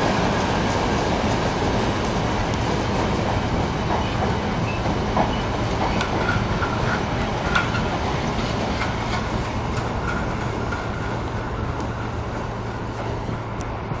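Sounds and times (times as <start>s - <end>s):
freight train rumble: 0.0s - 14.0s
train wheels clanking over rail joints: 0.1s - 13.6s.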